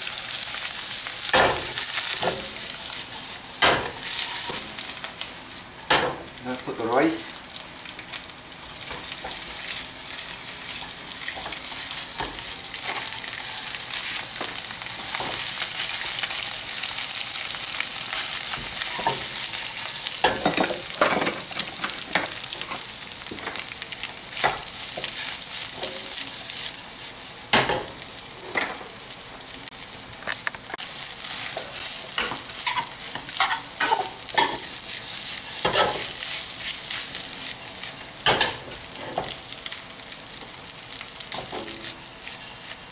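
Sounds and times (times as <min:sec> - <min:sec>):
rice sizzling in oil: 0:00.0 - 0:42.9.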